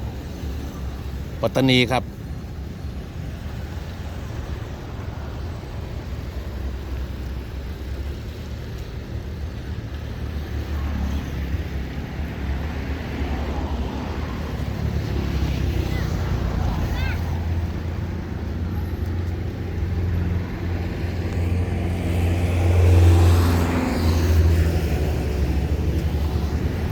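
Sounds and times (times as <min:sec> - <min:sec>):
outdoor background noise: 0:00.0 - 0:26.9.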